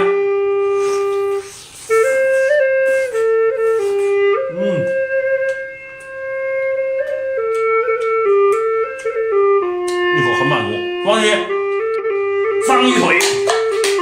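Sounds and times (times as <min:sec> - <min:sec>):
flute-like melody: 0:00.0 - 0:14.0.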